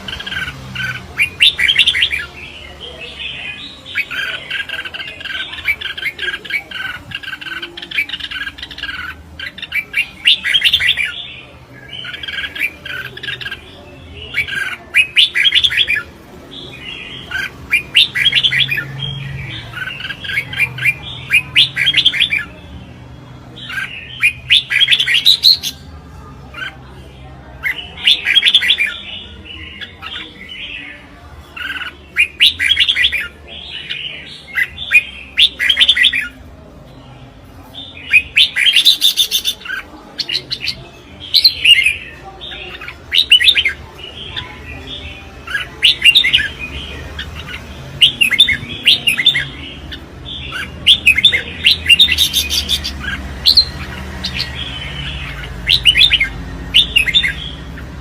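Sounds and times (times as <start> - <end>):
birds warbling: 0.0 - 58.0.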